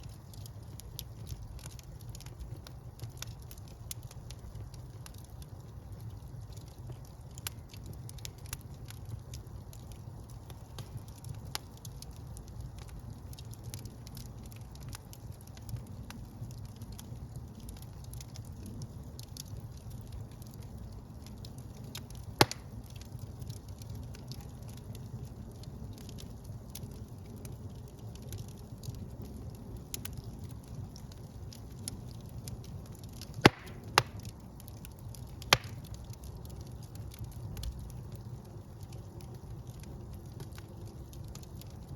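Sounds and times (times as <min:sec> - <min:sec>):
loud fire pops: 0:00.0 - 0:41.9
wood fire crackling: 0:00.0 - 0:41.9.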